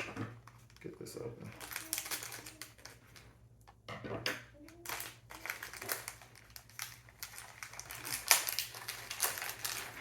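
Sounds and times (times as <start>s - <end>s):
packaging crinkling and rustling: 0.0s - 3.3s, 4.7s - 10.0s.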